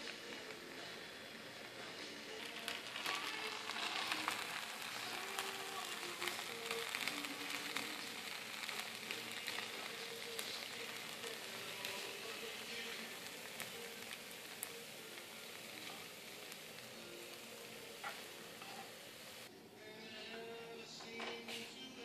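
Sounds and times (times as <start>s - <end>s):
noodles sizzling in frying pan: 0.0s - 19.5s
background music: 0.0s - 22.0s.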